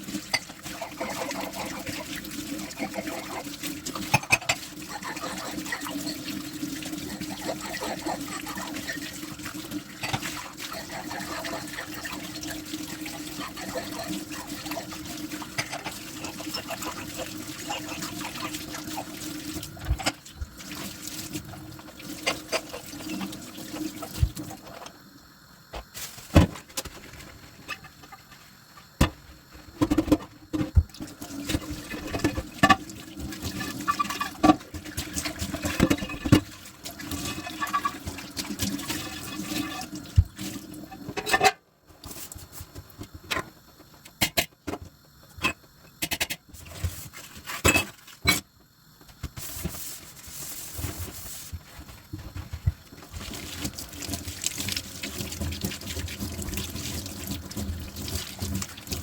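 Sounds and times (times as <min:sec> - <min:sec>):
running water: 0:00.0 - 0:29.0, 0:30.5 - 0:44.0, 0:49.4 - 0:59.0.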